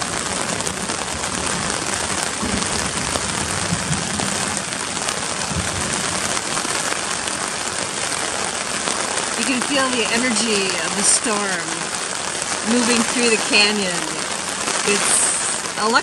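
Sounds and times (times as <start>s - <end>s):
rain pattering on tent fabric: 0.0s - 16.0s.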